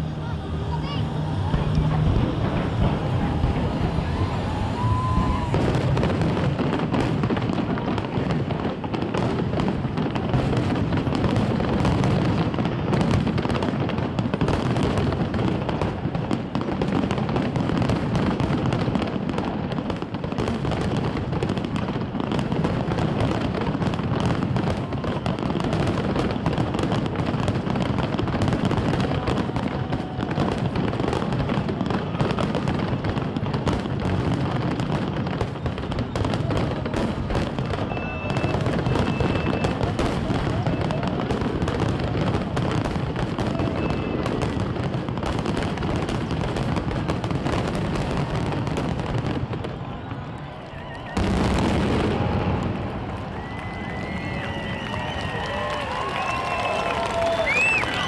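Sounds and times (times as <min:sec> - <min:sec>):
fireworks booming and crackling: 0:00.0 - 0:58.0.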